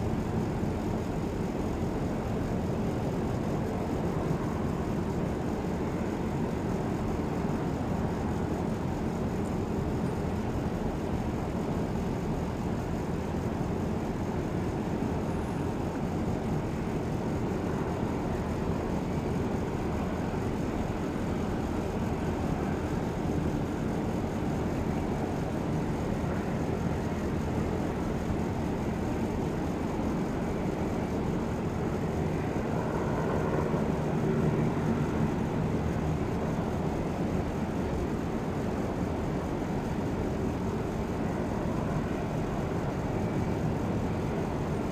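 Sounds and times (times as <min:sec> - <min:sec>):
jet airliner engine rumble: 0:00.0 - 0:44.9.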